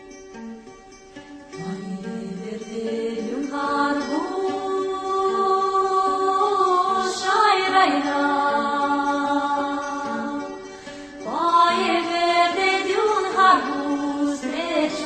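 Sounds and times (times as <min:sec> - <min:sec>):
slow chant-like singing: 0:01.6 - 0:15.0.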